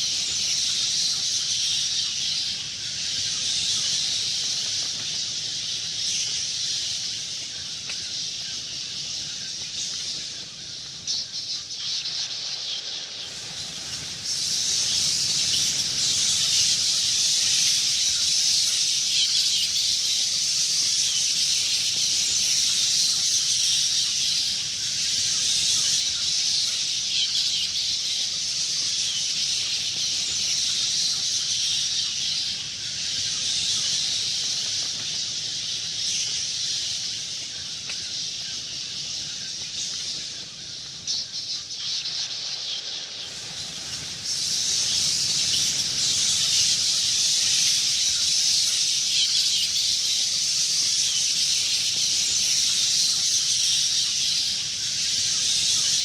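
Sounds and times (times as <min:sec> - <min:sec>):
bats chittering: 0:00.0 - 0:56.0.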